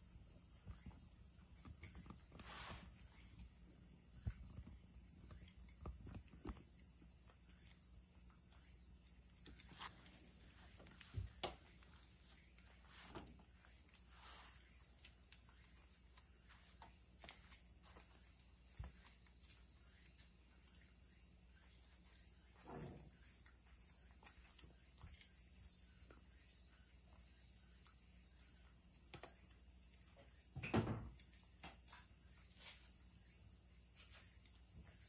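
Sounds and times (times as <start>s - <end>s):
insects shrilling: 0.0s - 35.0s.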